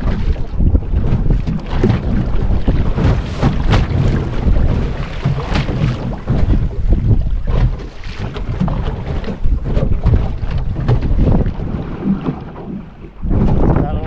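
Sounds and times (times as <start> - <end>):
water splashing against boat hull: 0.0 - 14.0
wind buffeting microphone: 0.0 - 14.0.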